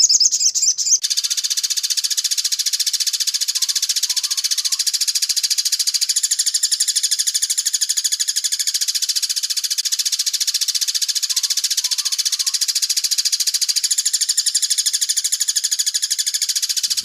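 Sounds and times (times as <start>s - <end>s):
bird high rapid trill: 0.0s - 17.0s.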